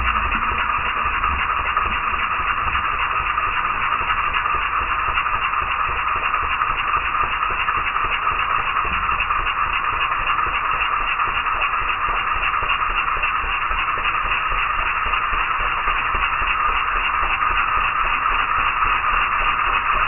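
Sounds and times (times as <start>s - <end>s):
banknote counting machine fluttering: 0.0s - 20.0s
low machine rumble: 0.0s - 20.0s.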